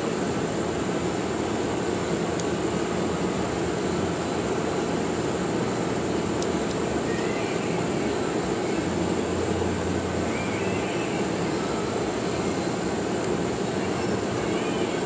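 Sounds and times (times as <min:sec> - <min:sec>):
machine drone: 0:00.0 - 0:15.0.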